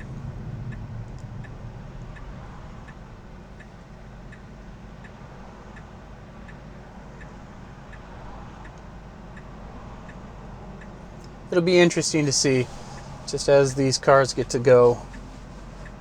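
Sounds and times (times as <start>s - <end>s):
low cabin hum: 0.0s - 16.0s
turn signal ticking: 0.0s - 16.0s.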